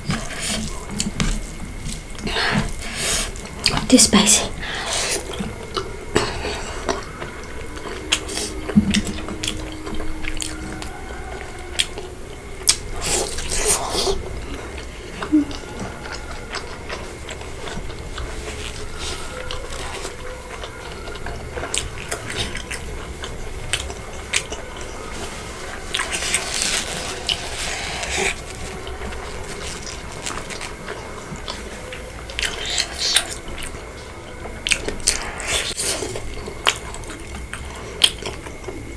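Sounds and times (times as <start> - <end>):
wet chewing: 0.0 - 38.9.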